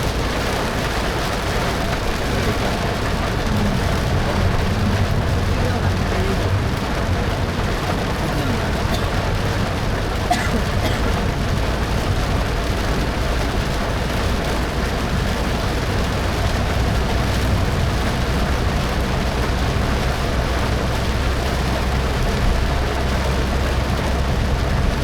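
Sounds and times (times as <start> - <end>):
heavy rain: 0.0 - 25.0
low car engine: 0.0 - 25.0
road rumble: 0.0 - 25.0
tyres on wet road: 0.0 - 25.0.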